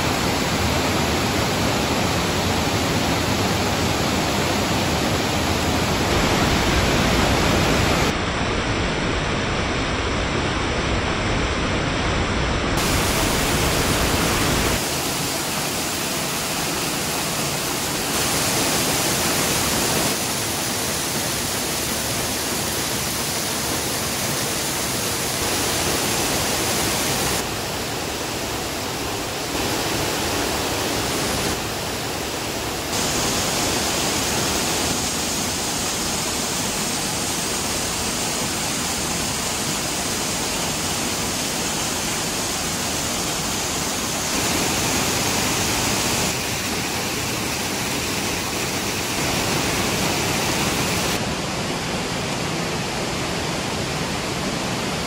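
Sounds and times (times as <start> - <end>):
waterfall roaring onto rock: 0.0 - 8.2, 12.8 - 55.0.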